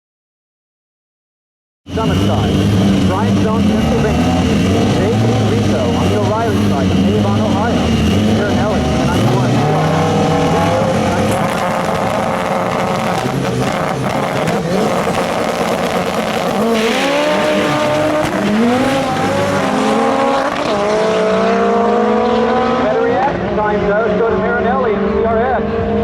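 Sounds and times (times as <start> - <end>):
drag car engines revving hard: 1.9 - 26.0.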